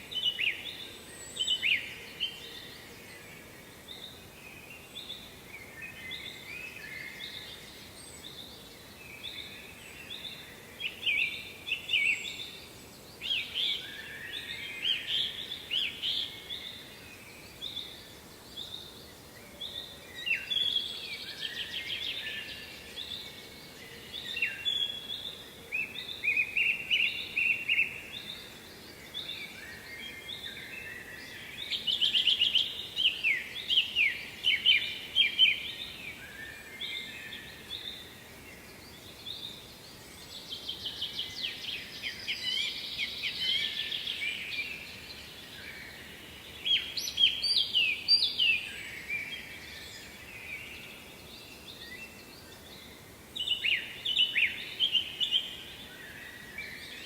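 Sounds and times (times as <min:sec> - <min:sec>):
faint background hiss: 0:00.0 - 0:57.0
songbirds singing: 0:00.0 - 0:57.0.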